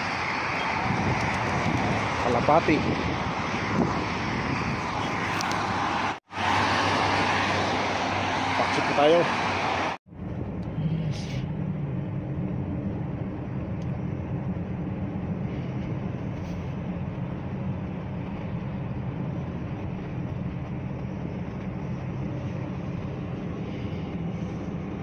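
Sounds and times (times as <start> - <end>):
car engine rumble: 0.0 - 25.0.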